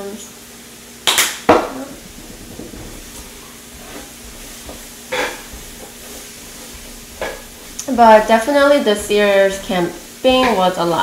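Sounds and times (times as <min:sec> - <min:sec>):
vegetables sizzling in oil: 0:00.1 - 0:11.0
sharp knocks: 0:01.5 - 0:11.0
spatula scraping griddle: 0:01.6 - 0:11.0.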